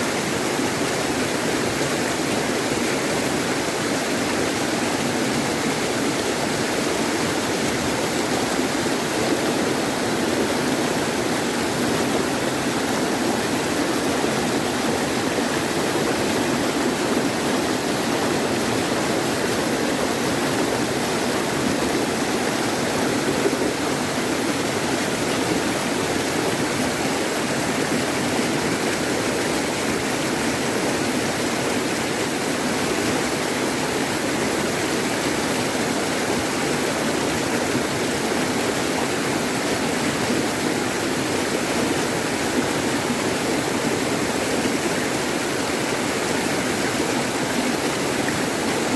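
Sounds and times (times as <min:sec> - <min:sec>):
stream water rushing: 0:00.0 - 0:48.9.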